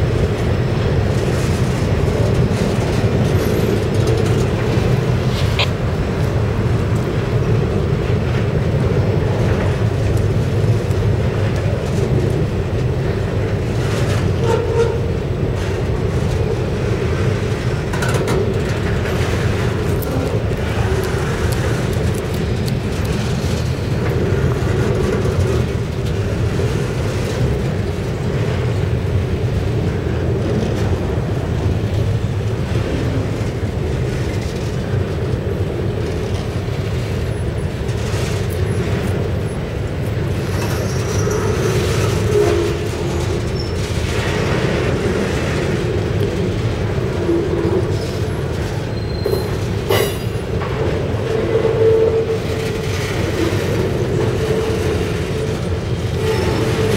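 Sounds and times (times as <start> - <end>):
train wheels rumbling on track: 0.0 - 56.9.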